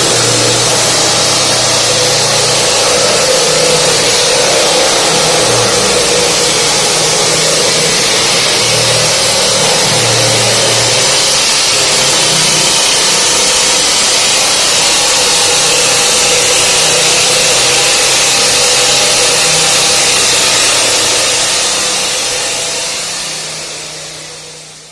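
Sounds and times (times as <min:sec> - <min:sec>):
concrete saw grinding whine: 0:00.0 - 0:24.9
engine running: 0:00.0 - 0:24.9.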